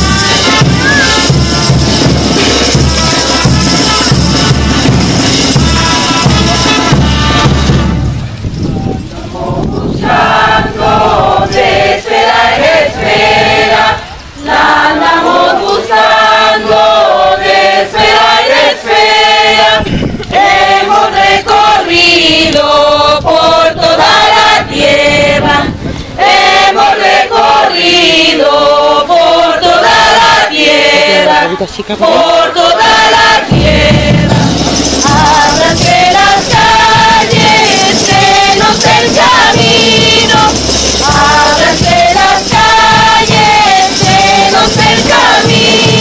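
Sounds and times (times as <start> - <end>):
group of people singing: 0.0 - 8.0, 9.1 - 46.0.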